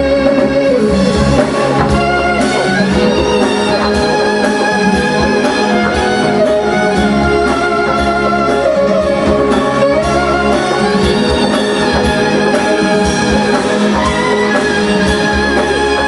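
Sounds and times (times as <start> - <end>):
band accompaniment: 0.0 - 16.0
clarinet melody with bent notes: 0.0 - 16.0.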